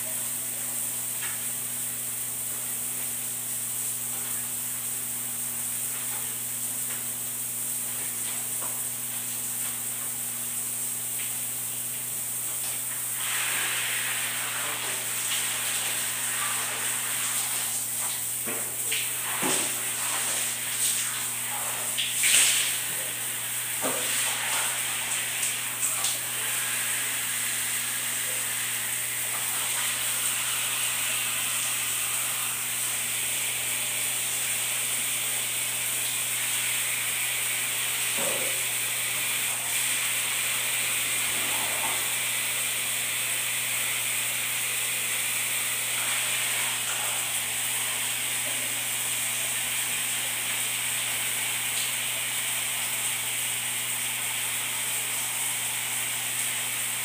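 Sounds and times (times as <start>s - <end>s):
shower water spraying: 0.0s - 57.0s.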